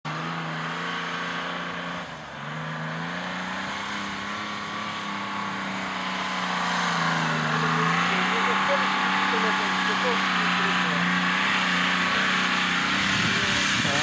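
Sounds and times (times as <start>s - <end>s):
vehicle engine under load: 0.0s - 14.0s.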